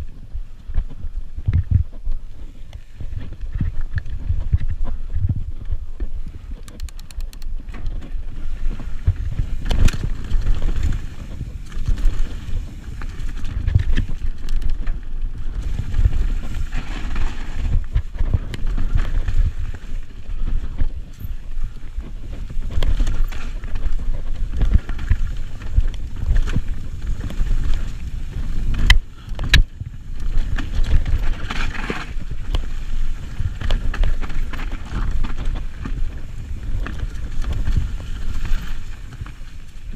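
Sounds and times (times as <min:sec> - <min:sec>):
wind buffeting microphone: 0:00.0 - 0:39.9
bike clattering over bumps: 0:07.5 - 0:39.9
tyres rolling over dirt and rocks: 0:07.6 - 0:39.9.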